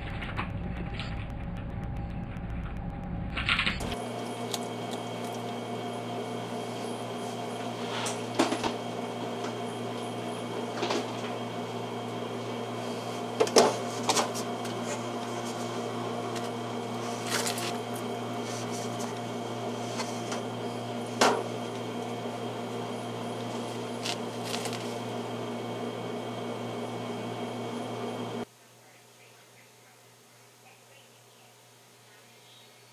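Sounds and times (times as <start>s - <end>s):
steady electrical hum: 0.0s - 32.9s.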